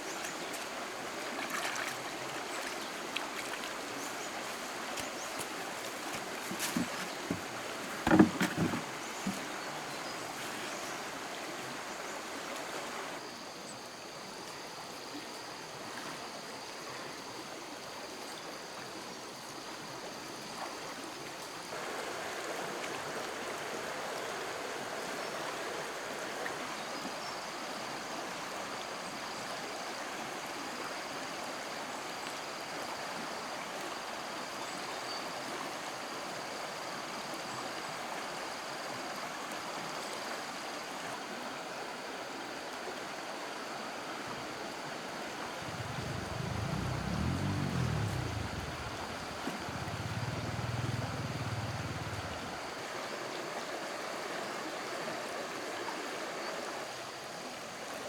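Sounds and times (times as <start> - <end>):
stream water rushing: 0.0 - 13.5, 18.8 - 58.0.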